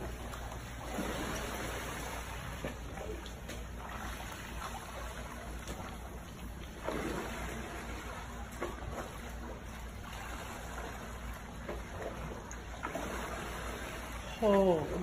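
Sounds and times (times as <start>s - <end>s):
pool water sloshing and lapping: 0.0s - 15.0s.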